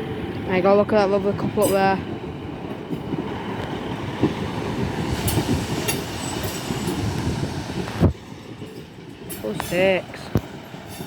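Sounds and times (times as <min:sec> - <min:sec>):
train rumbling: 0:00.0 - 0:11.0
wheels clicking on track: 0:00.0 - 0:11.0.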